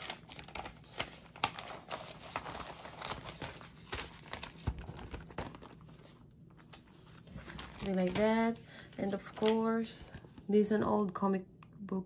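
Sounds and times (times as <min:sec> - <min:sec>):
comic book paper crinkling: 0:00.0 - 0:10.4.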